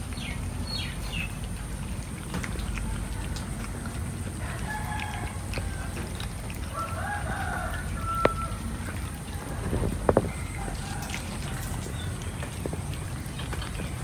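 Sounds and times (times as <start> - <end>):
cats eating raw meat: 0.0 - 14.0
drawn-out animal calls: 0.0 - 14.0
low steady rumble: 0.0 - 14.0.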